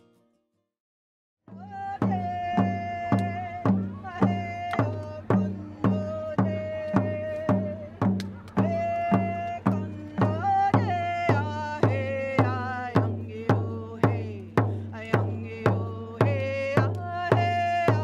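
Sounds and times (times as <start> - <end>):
drum beaten steadily: 1.5 - 18.0.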